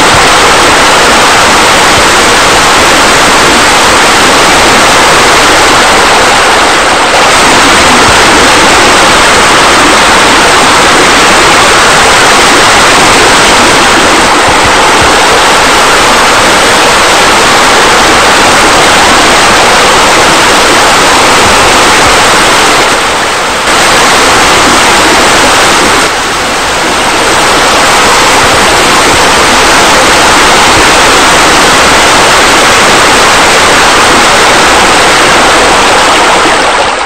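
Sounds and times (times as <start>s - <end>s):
cascading water rushing: 0.0s - 37.0s.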